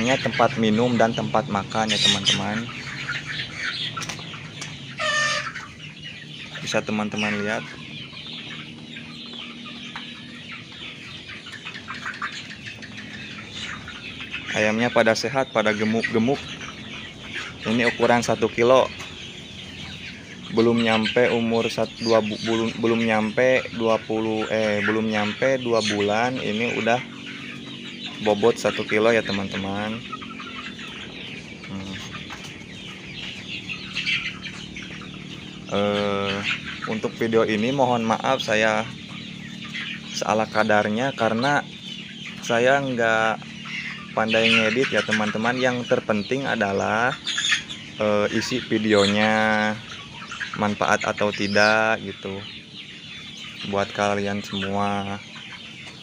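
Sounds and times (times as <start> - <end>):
chickens clucking and peeping: 0.0 - 56.0.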